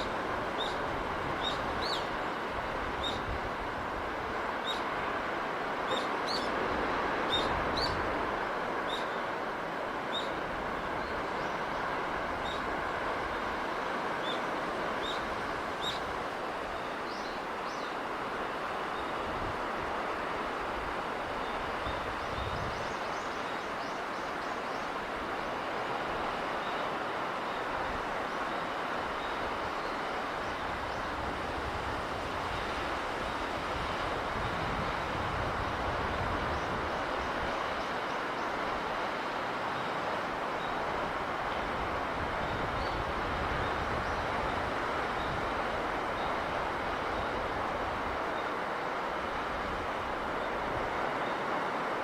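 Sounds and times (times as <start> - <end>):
sea waves washing: 0.0 - 52.0.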